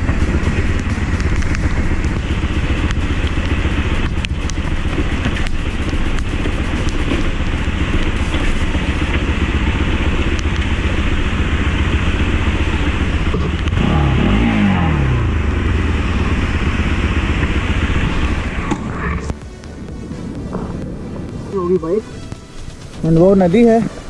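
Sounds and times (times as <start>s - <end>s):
motorcycle engine running: 0.0s - 23.7s.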